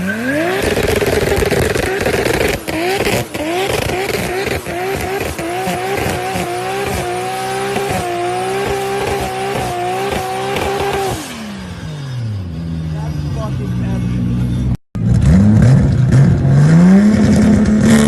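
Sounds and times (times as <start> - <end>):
car engine revving hard: 0.0 - 11.9, 15.0 - 18.0.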